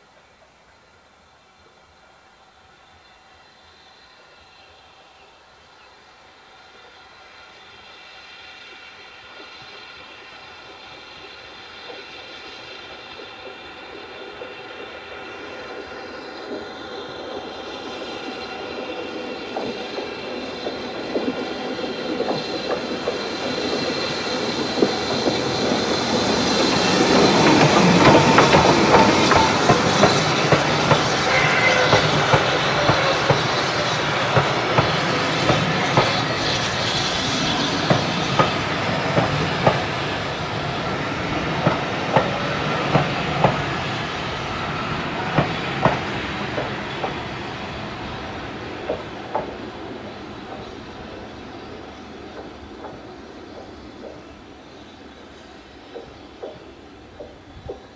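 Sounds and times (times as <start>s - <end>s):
steam locomotive running past: 0.0s - 57.9s
train wheels clicking over rail joints: 9.3s - 57.9s.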